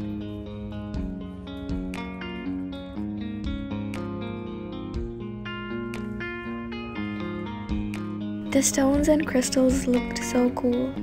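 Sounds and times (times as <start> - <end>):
strummed guitar music: 0.0 - 11.0.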